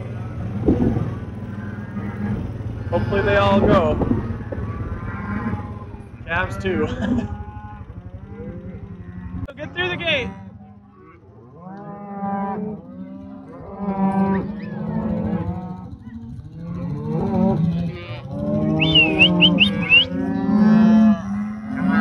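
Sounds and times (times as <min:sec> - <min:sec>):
cows and calves mooing: 0:00.0 - 0:22.0.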